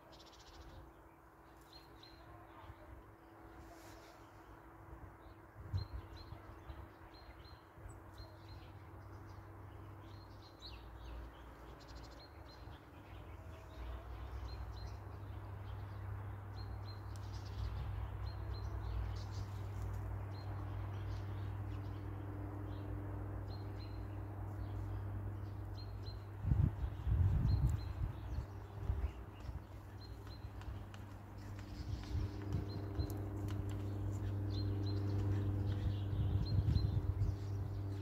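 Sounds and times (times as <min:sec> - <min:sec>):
low steady hum: 0:00.0 - 0:38.0
small songbirds chirping: 0:00.0 - 0:38.0.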